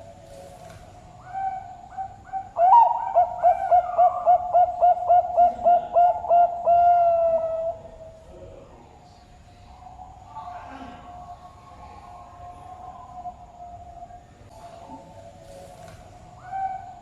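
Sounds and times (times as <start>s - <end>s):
dove cooing: 0.0s - 8.2s, 9.7s - 17.0s.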